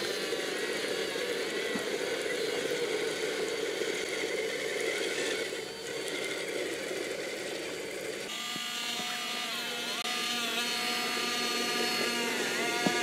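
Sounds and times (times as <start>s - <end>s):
electric motor and gears whirring: 0.0s - 13.0s.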